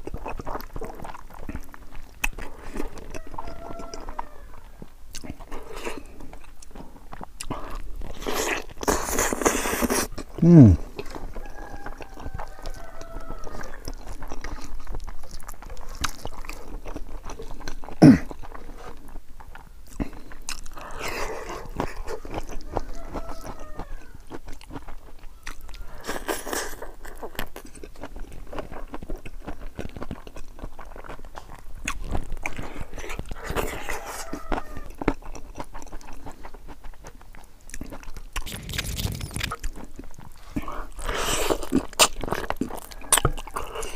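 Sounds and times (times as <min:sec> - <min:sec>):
wet chewing and crunching: 0:00.0 - 0:43.9.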